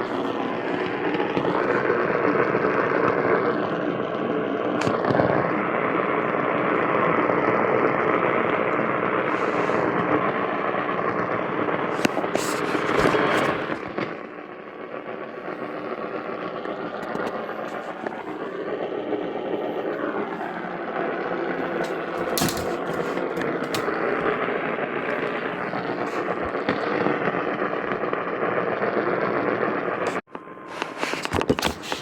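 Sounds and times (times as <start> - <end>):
radio static hiss: 0.0 - 32.0
static crackles: 0.0 - 32.0.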